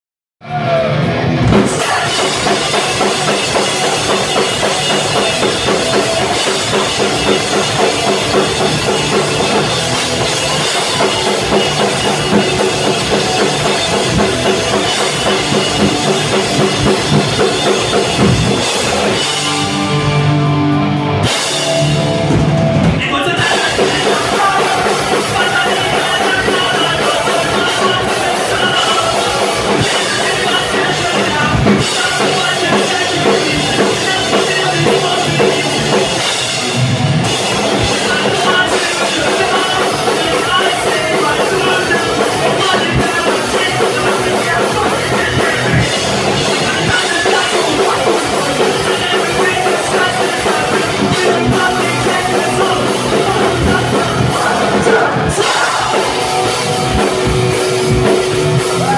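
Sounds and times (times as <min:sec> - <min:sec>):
loud pop-punk band: 0:00.4 - 0:58.9
pounding drum kit: 0:00.4 - 0:58.9.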